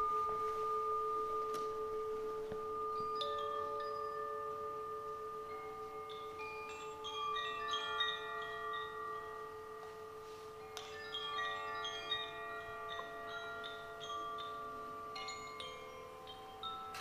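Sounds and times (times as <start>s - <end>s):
chimes ringing: 0.0s - 17.0s
low held tone: 0.0s - 17.0s.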